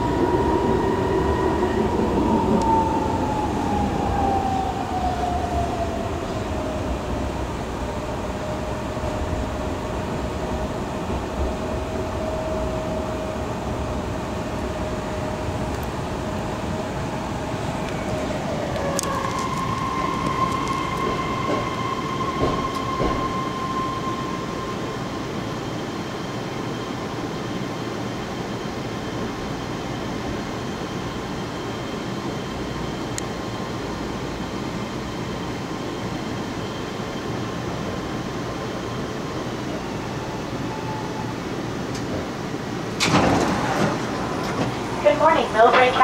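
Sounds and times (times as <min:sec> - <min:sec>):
train rumble and rail noise: 0:00.0 - 0:46.0.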